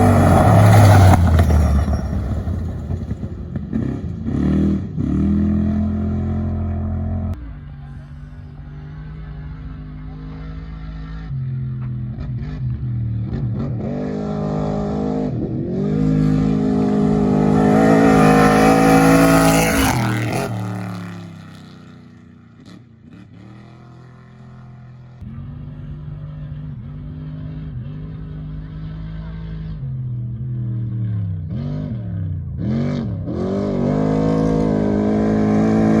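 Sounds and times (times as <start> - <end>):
race vehicle accelerating past: 0.0 - 7.7, 8.6 - 22.0, 23.2 - 36.0.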